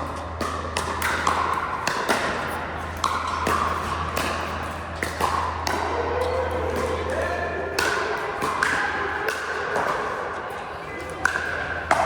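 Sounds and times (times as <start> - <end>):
ball bouncing: 0.3 - 10.0.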